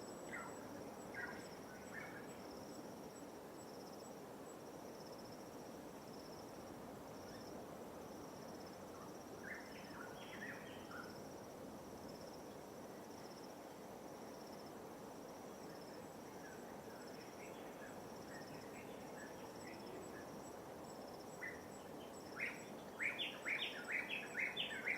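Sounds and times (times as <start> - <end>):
high insect trills: 0.0 - 24.9.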